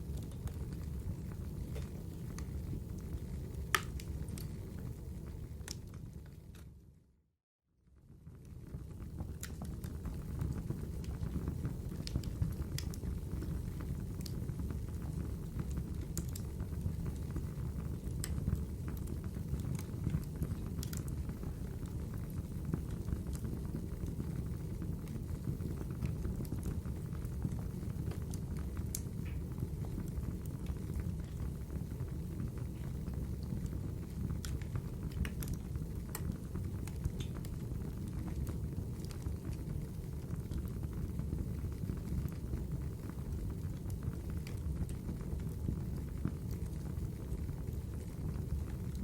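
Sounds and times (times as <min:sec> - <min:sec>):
fire flames rumbling: 0:00.0 - 0:06.7, 0:08.0 - 0:49.0
fire crackling and popping: 0:00.0 - 0:06.8, 0:08.0 - 0:49.0.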